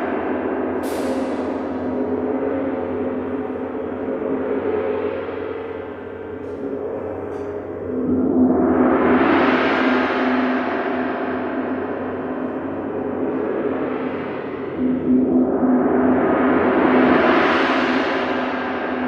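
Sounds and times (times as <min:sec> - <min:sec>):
low tone hum: 0:00.0 - 0:19.0.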